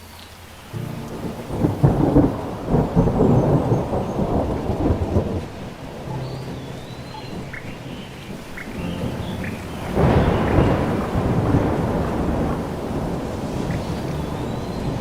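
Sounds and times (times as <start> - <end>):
rain: 0.0 - 15.0
rolling thunder: 0.8 - 15.0.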